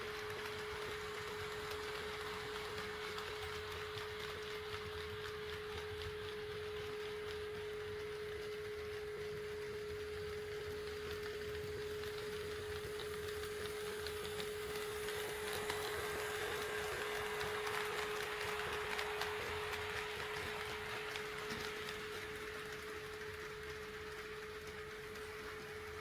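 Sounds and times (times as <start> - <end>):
model train rumbling: 0.0 - 26.0.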